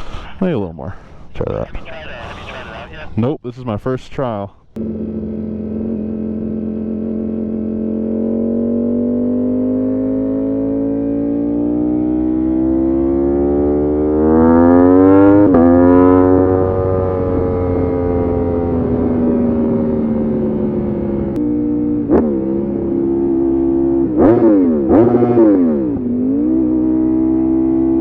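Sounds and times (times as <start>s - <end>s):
motorcycle engine at high revs: 4.8s - 28.0s.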